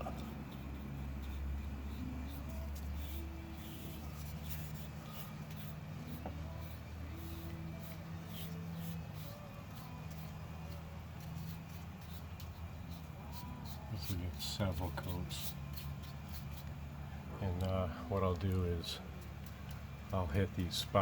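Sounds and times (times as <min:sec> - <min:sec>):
scratchy paintbrush strokes: 0:00.0 - 0:16.8
steady low hum: 0:00.0 - 0:21.0.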